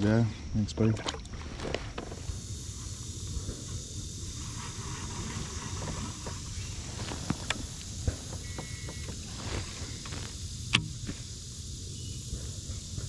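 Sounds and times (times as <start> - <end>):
insects hissing: 0.0 - 13.0.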